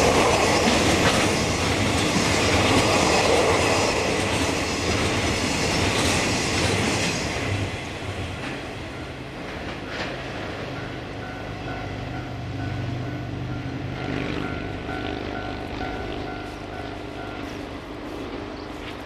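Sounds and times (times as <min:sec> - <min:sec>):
faint clicks from train: 0:00.0 - 0:13.7, 0:14.4 - 0:19.0
train wheels clacking on rails: 0:00.0 - 0:19.0.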